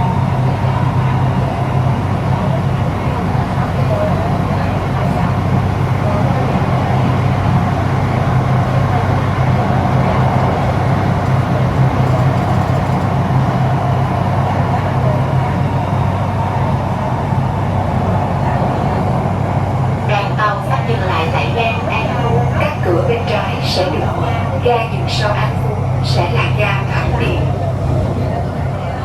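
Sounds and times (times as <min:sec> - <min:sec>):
train rumble from inside car: 0:00.0 - 0:29.0.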